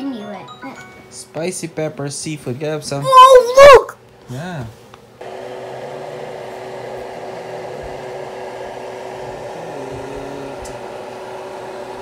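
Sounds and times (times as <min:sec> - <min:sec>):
electric fan whirring hum: 0:00.0 - 0:12.0.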